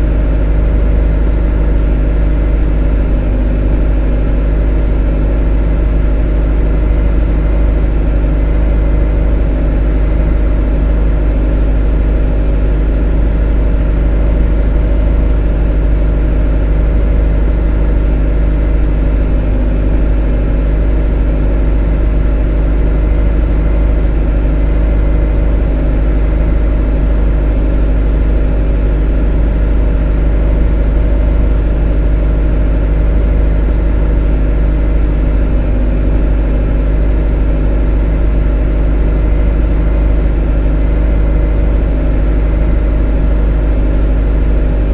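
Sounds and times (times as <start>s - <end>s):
motor humming steadily: 0.0s - 44.9s.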